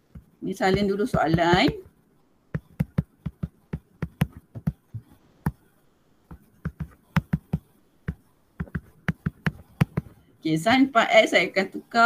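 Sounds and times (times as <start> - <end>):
stylus tapping on tablet screen: 0.0 - 10.2.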